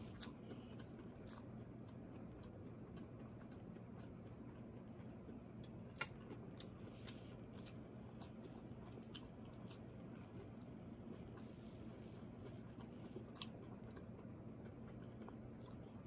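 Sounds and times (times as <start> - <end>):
person chewing broccoli: 0.0 - 16.0.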